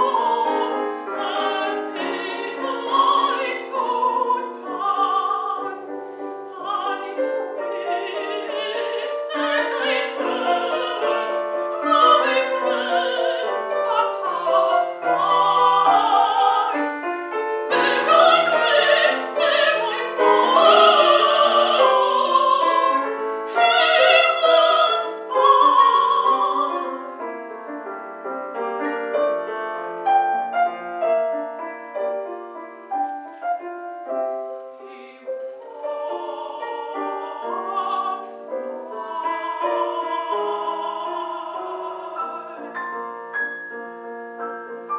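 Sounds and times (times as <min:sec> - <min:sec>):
piano accompaniment: 0:00.0 - 0:44.9
woman singing classical song: 0:00.0 - 0:44.9.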